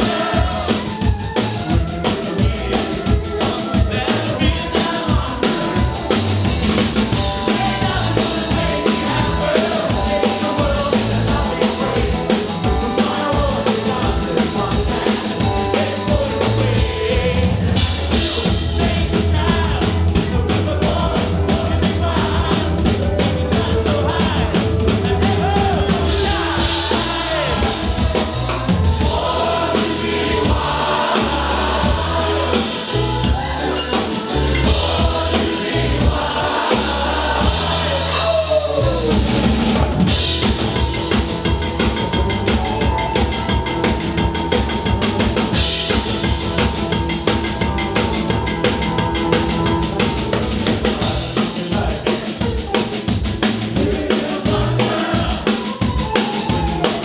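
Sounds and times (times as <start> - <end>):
drum kit: 0.0 - 57.0
live band music: 0.0 - 57.0
person singing: 0.0 - 57.0.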